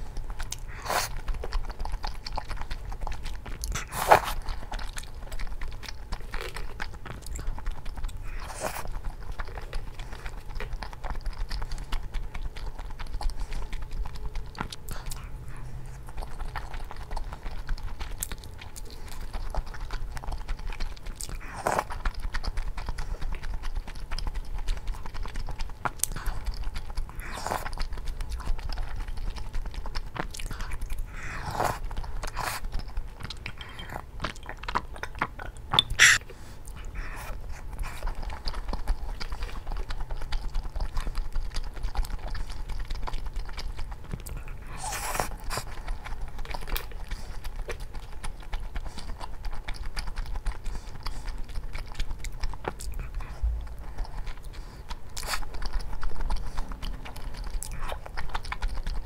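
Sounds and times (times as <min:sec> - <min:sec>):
person chewing and biting: 0:00.0 - 0:59.0.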